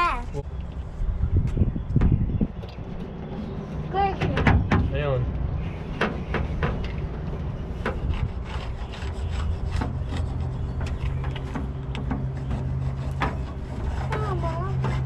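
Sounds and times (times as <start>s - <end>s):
roller rubbing and scraping: 2.9s - 15.0s.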